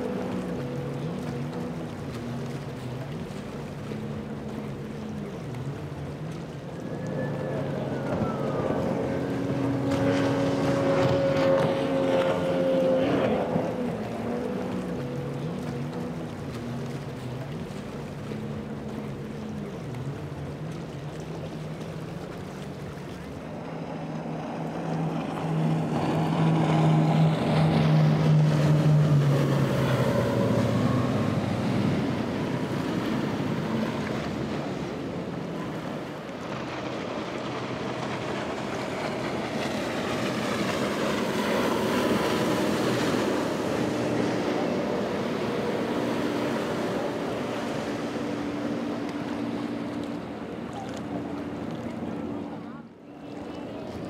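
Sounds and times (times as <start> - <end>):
powerboat engines droning: 0.0 - 54.0.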